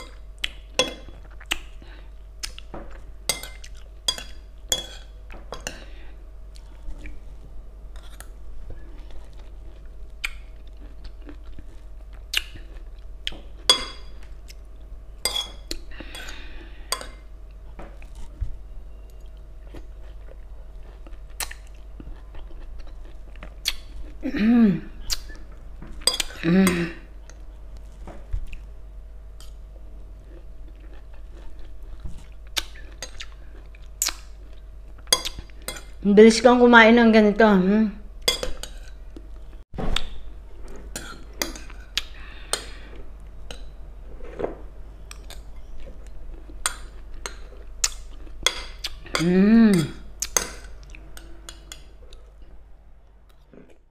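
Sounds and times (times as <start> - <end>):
person chewing: 0.0 - 5.9, 6.5 - 18.4, 19.1 - 24.3, 24.9 - 28.7, 29.4 - 36.0, 38.2 - 52.6, 53.2 - 53.8.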